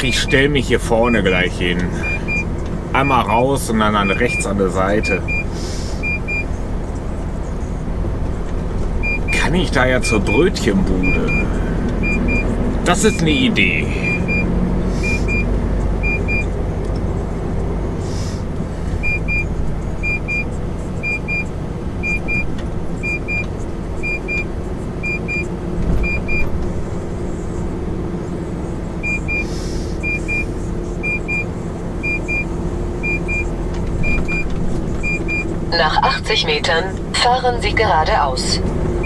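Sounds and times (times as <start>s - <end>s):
truck diesel engine running: 0.0s - 39.0s.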